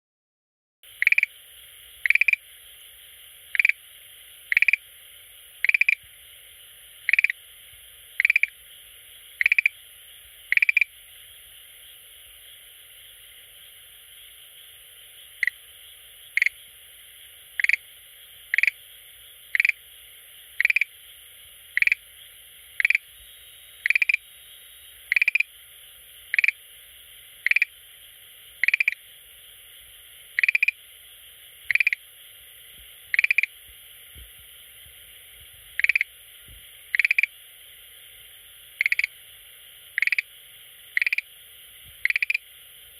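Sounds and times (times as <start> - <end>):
frog croaking: 0.9 - 35.0, 35.7 - 42.7.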